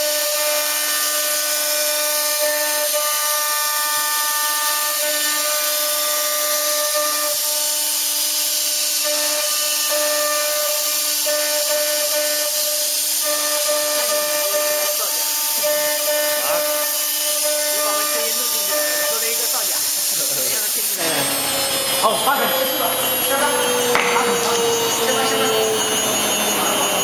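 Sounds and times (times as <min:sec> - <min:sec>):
router bit cutting wood hiss: 0:00.0 - 0:27.0
router spindle whine: 0:00.0 - 0:27.0.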